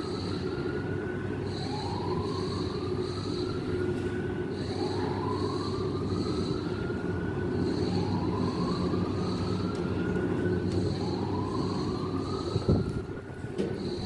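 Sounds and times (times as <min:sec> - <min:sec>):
machinery rumble: 0:00.0 - 0:14.0
whooping alarm tone: 0:00.0 - 0:14.0.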